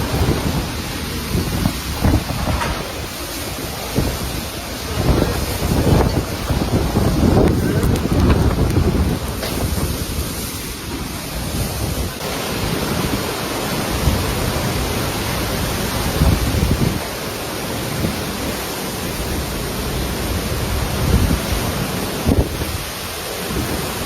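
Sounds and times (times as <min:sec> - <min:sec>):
strong wind blowing: 0:00.0 - 0:24.0
wind gusts buffeting microphone: 0:00.0 - 0:24.0.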